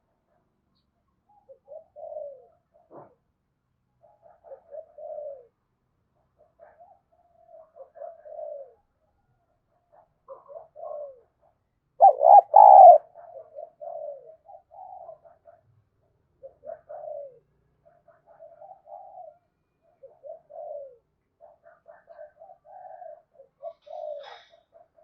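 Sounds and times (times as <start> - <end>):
dove cooing: 1.3 - 3.2, 4.0 - 5.6, 6.4 - 8.9, 9.9 - 15.6, 16.4 - 25.0.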